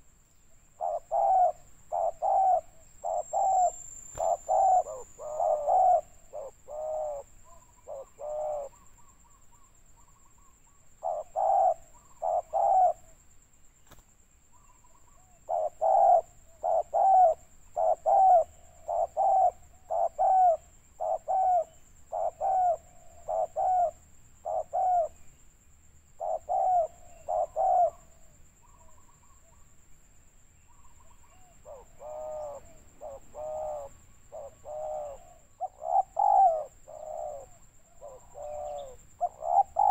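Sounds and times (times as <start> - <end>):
doves cooing: 0.8 - 13.2, 14.6 - 25.2, 26.2 - 29.6, 30.7 - 39.9.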